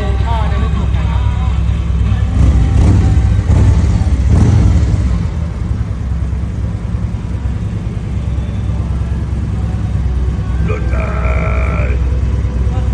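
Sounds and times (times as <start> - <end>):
motorcycle engine revving and idling: 0.6 - 12.9.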